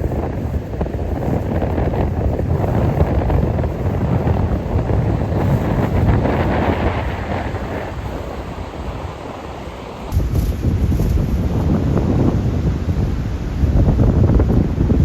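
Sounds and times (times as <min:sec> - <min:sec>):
surf breaking and washing: 0:00.0 - 0:15.0
wind buffeting microphone: 0:00.0 - 0:15.0.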